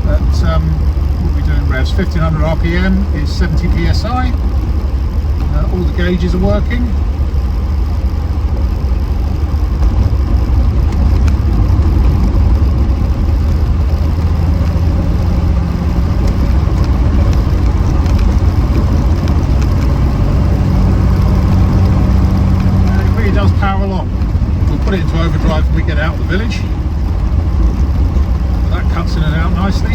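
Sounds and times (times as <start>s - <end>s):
car engine drone from inside cabin: 0.0s - 29.9s.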